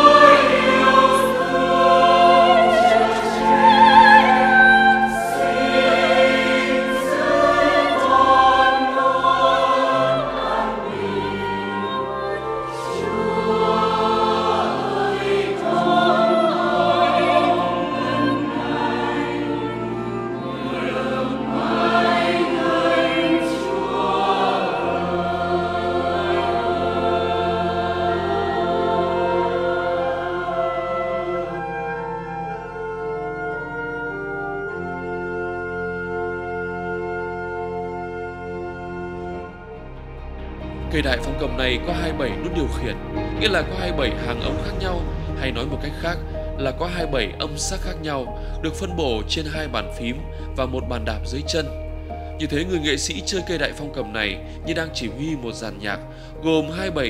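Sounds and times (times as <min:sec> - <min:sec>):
choir singing a hymn: 0:00.0 - 0:57.0
pipe organ chords: 0:00.0 - 0:57.0.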